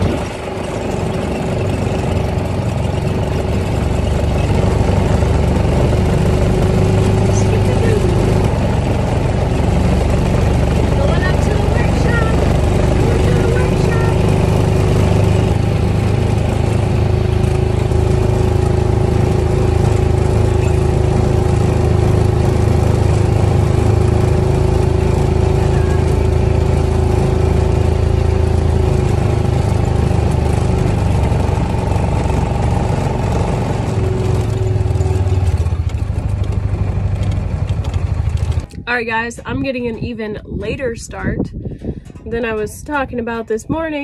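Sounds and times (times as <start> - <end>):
vehicle engine running: 0.0 - 44.0
wind and ride noise: 0.0 - 44.0.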